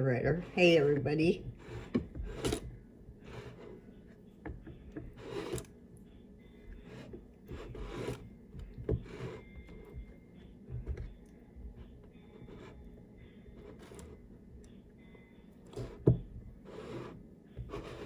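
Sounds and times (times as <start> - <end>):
scraping handling noise: 0.0 - 5.8, 6.6 - 14.5, 15.6 - 18.0.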